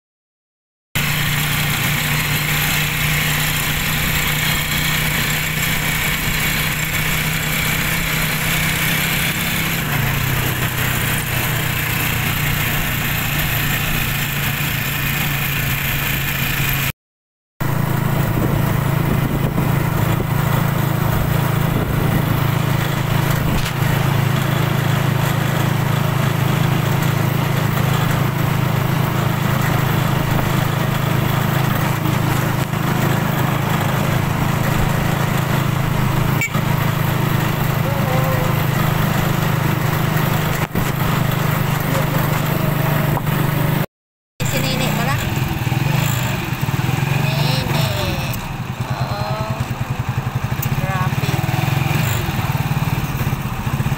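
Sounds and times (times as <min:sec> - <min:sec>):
vehicle engine running: 0:01.0 - 0:16.9, 0:17.6 - 0:53.9.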